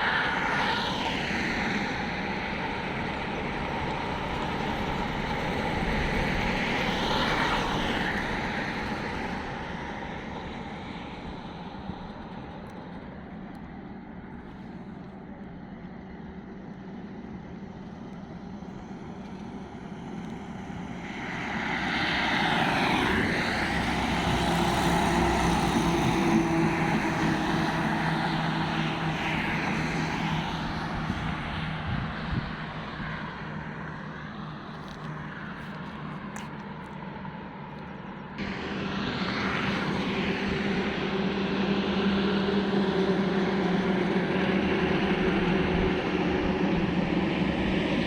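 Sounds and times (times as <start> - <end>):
vehicles passing roar: 0.0 - 48.0.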